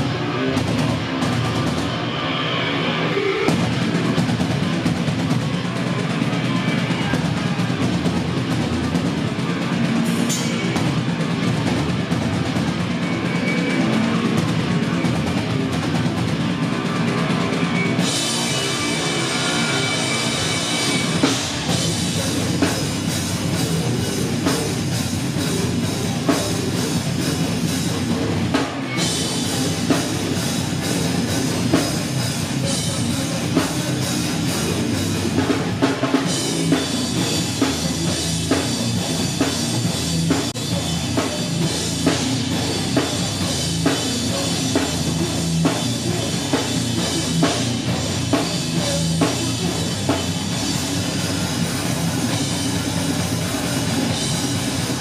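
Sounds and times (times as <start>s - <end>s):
drum kit hitting hard: 0.0s - 55.0s
live heavy rock band: 0.0s - 55.0s.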